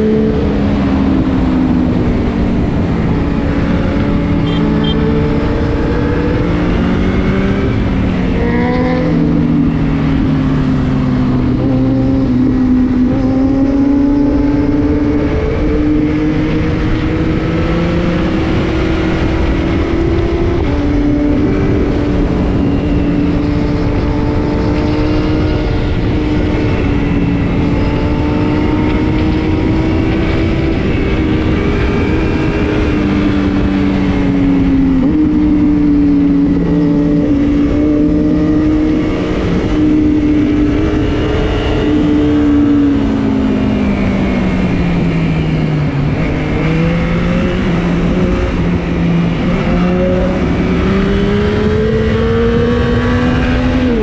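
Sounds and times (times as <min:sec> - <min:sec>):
constant rushing noise: 0:00.0 - 0:54.0
motorcycle engines cruising: 0:00.0 - 0:54.0.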